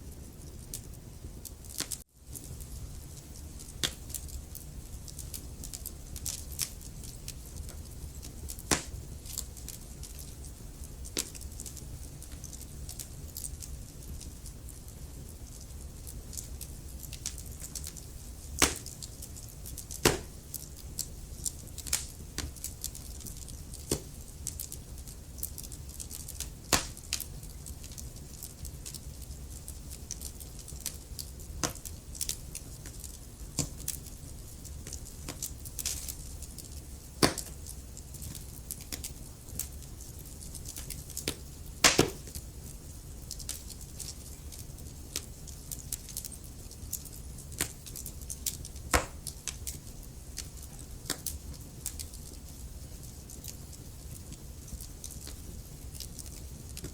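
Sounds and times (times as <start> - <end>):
low rumble of flames: 0.0 - 56.9
wood fire crackling: 0.0 - 56.9.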